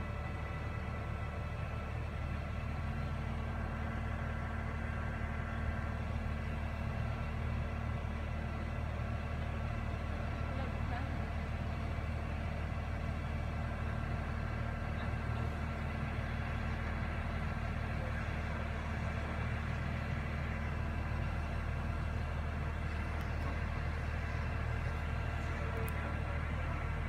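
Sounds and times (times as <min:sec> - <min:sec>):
crane engine droning: 0:00.0 - 0:27.0.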